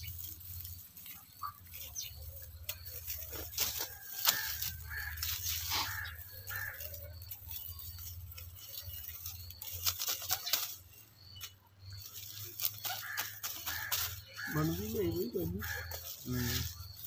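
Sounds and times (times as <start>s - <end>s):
dry stalks rustling and crackling: 0.0s - 17.0s.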